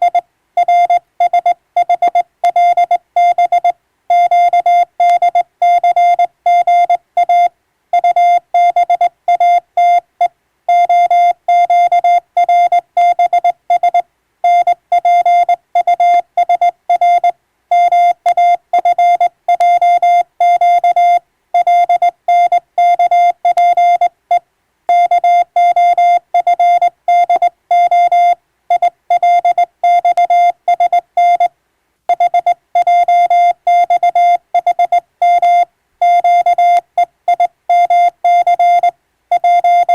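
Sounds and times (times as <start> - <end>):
morse code beeps: 0.0 - 10.0, 10.7 - 24.1, 24.9 - 31.5, 32.1 - 39.9.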